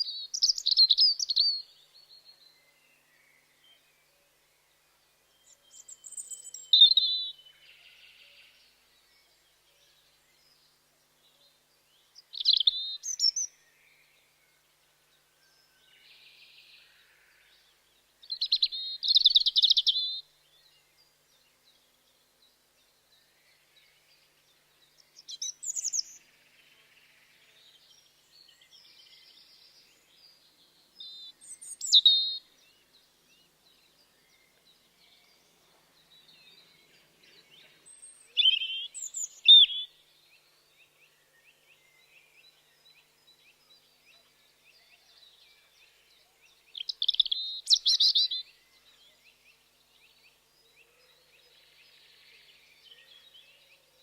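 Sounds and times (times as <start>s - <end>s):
robin singing: 0.0s - 3.9s, 5.0s - 14.8s, 15.5s - 54.0s.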